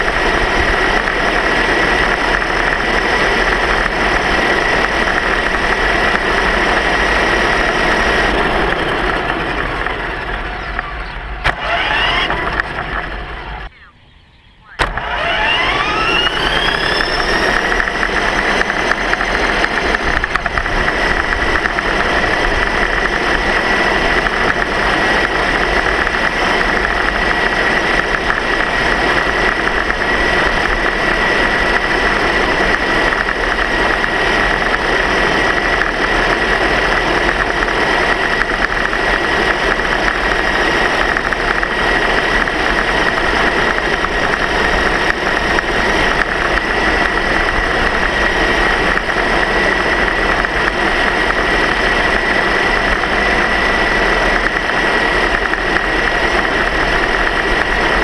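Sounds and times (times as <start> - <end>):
rolling noise: 0.0 - 58.0
small electric motor whine: 0.0 - 58.0.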